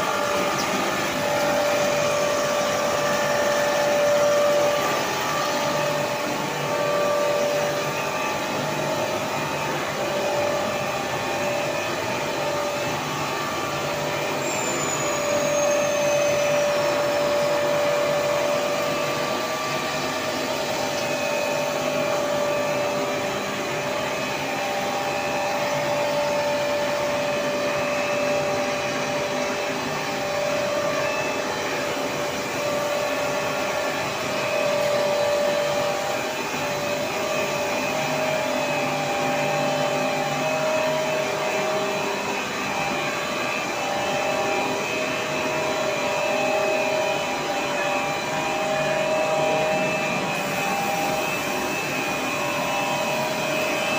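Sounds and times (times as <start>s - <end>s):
machinery whirring: 0.0s - 53.9s.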